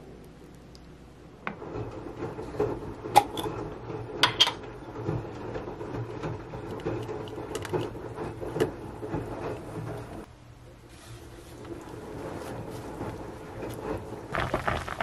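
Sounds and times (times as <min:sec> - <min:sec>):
water heating in saucepan: 0:00.0 - 0:15.0.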